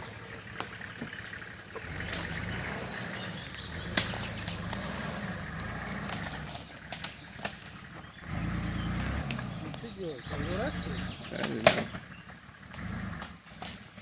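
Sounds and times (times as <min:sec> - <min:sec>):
vehicle engine at low revs: 0:00.0 - 0:14.0.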